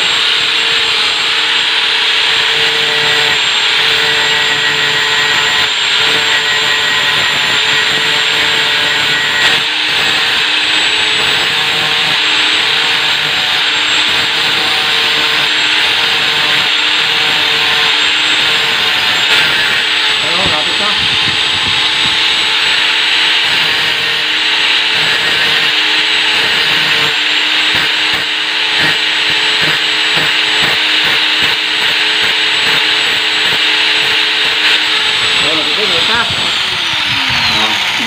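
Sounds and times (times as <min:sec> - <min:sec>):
angle grinder grinding metal: 0:00.0 - 0:38.0.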